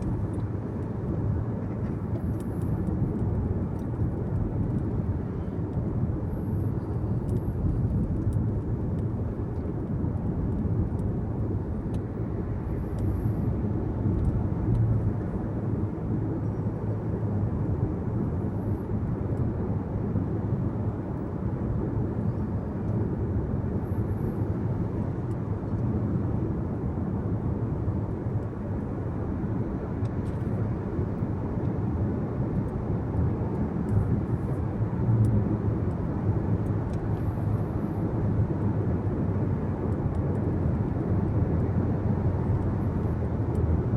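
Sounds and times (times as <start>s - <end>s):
car engine hum: 0.0s - 43.9s.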